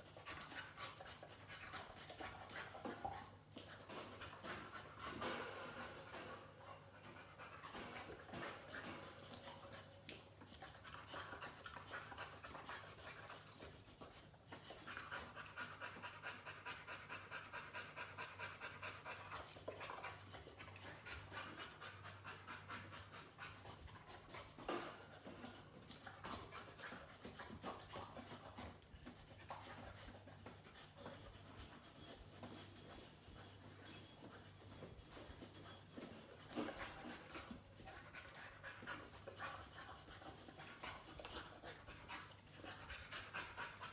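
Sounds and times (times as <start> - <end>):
dog panting: 0.0 - 43.9.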